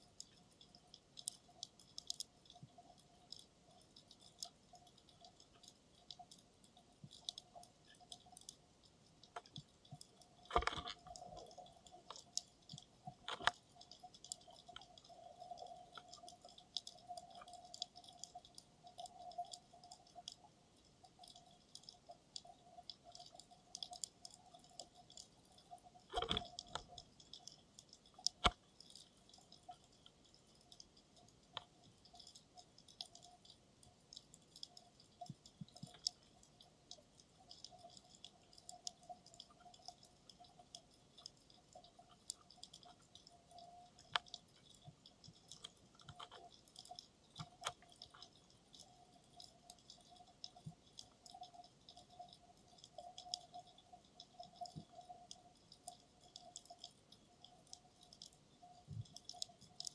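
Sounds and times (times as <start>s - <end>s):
crackle of faint clicks underwater: 0.0s - 59.9s
faint steady hum: 0.0s - 59.9s.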